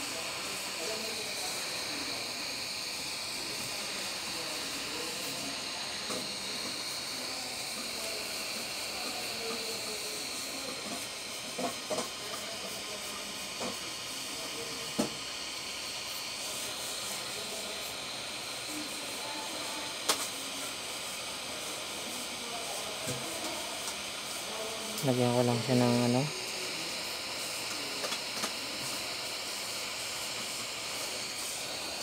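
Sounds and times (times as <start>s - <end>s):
hot-air gun hissing: 0.0s - 32.0s.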